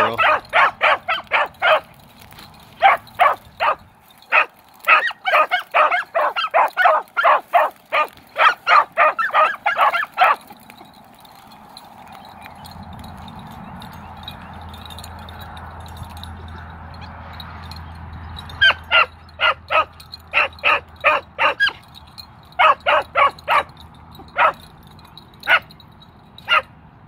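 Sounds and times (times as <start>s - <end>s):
dogs barking: 0.0s - 25.8s, 26.4s - 26.8s.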